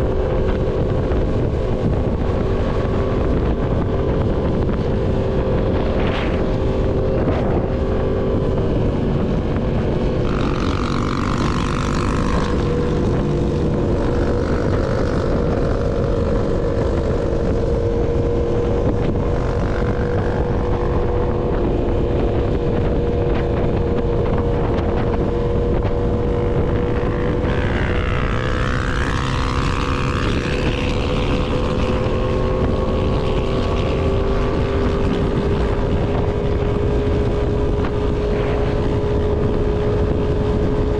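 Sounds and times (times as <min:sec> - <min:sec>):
motorcycle engine cruising: 0:00.0 - 0:40.9
wind buffeting microphone: 0:00.0 - 0:40.9.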